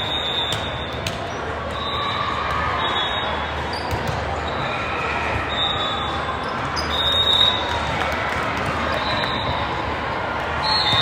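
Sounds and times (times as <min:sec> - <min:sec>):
echoing sports hall din: 0:00.0 - 0:11.0.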